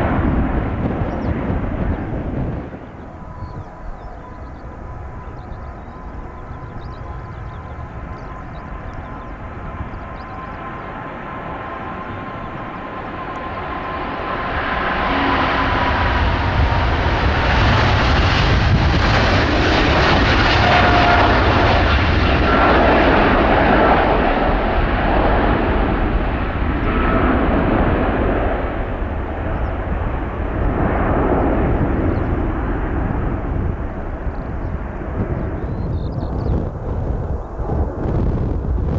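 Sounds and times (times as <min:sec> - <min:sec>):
jet engine roar at takeoff: 0:00.0 - 0:38.9.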